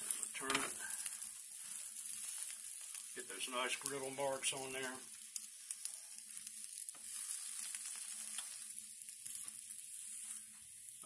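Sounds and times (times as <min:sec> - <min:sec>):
bread sizzling on grill pan: 0:00.0 - 0:11.0.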